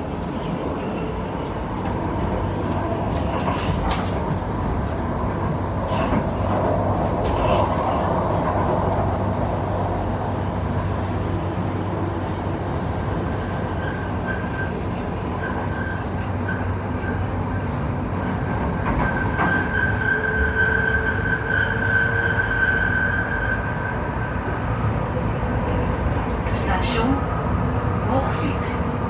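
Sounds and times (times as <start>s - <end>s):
metro train rumble from inside: 0.0s - 29.0s.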